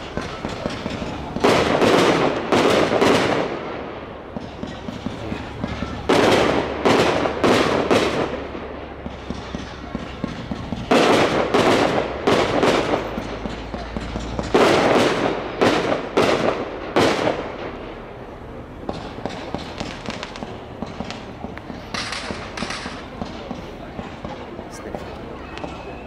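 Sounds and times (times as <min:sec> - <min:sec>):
firework booms: 0:00.0 - 0:25.0
firework crackling and pops: 0:00.0 - 0:26.0.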